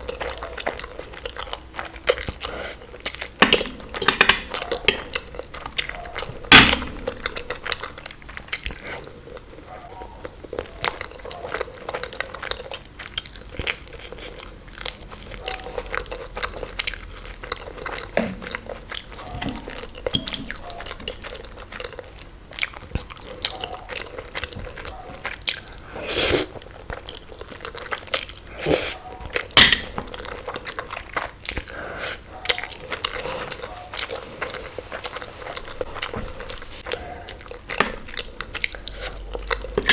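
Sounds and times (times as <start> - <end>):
chewing and crunchy bites: 0.0 - 39.9.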